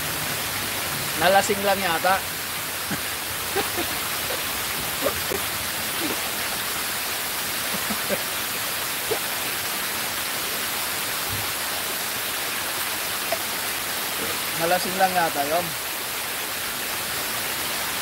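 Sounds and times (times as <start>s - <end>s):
water cascading down fountain: 0.0s - 18.0s.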